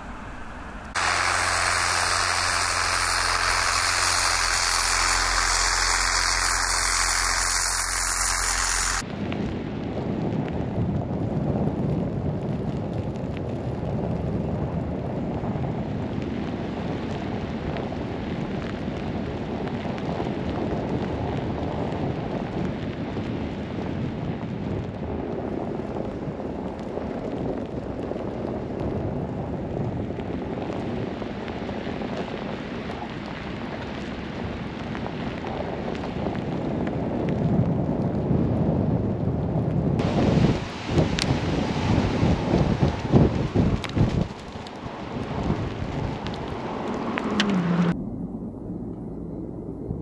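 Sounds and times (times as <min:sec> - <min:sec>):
blizzard wind buffeting microphone: 0:00.0 - 0:50.0.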